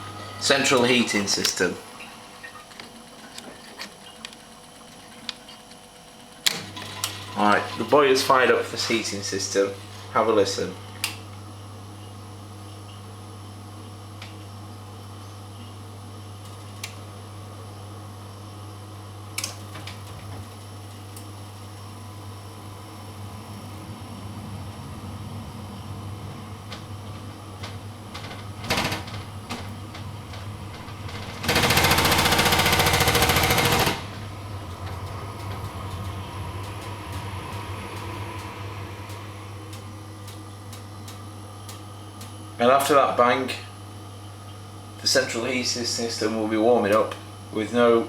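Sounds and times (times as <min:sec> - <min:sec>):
gas boiler humming: 0:00.0 - 0:48.0.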